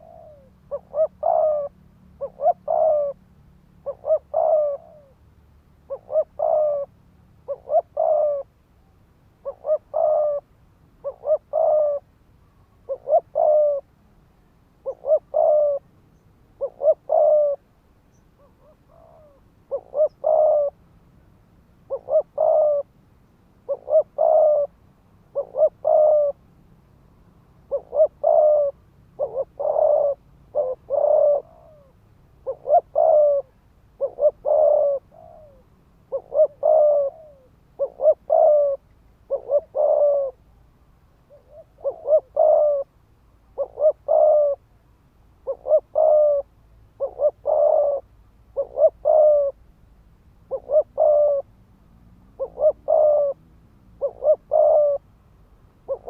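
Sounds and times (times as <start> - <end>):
dove cooing: 0.0 - 5.2, 5.8 - 14.0, 14.8 - 20.8, 21.8 - 23.0, 23.6 - 26.5, 27.6 - 40.5, 41.2 - 44.8, 45.4 - 49.7, 50.4 - 51.5, 52.3 - 55.1, 55.8 - 56.0.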